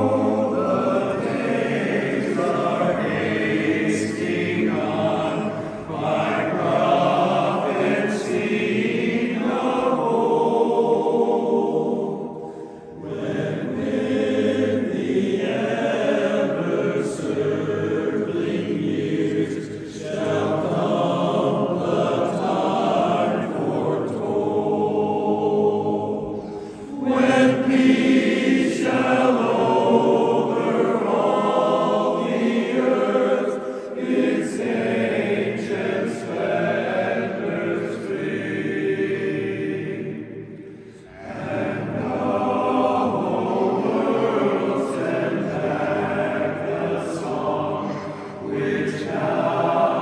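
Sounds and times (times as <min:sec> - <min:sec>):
barbershop chorus singing a cappella: 0:00.0 - 0:50.0.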